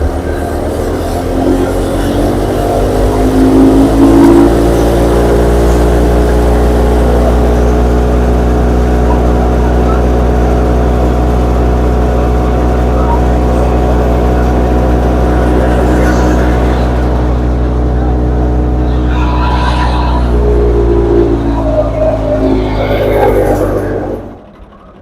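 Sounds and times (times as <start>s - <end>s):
tractor engine running under load: 0.0s - 25.0s.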